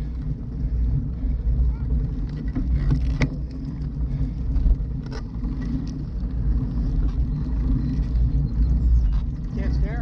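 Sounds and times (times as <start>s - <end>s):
tyre noise on asphalt: 0.0s - 10.0s.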